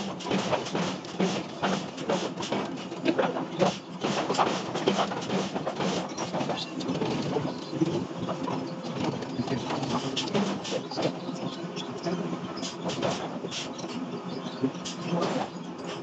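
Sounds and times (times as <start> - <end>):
machinery running: 0.0 - 16.0.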